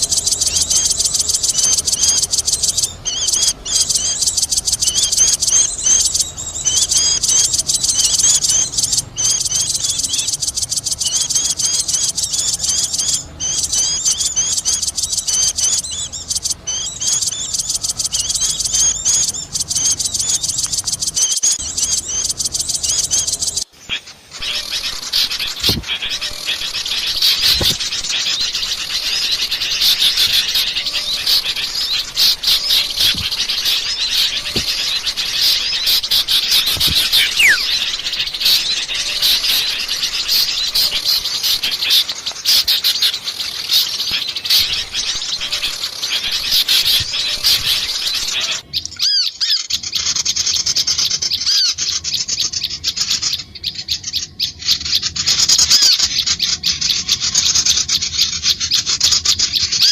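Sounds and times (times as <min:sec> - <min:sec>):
small songbirds chirping: 0:00.0 - 0:59.9.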